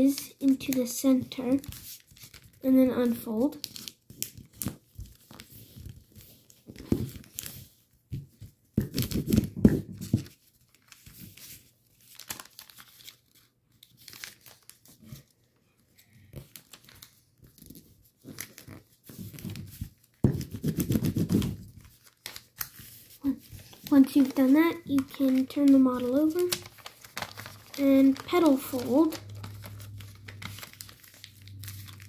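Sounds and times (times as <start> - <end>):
paper rustling and crinkling: 0.1 - 32.0.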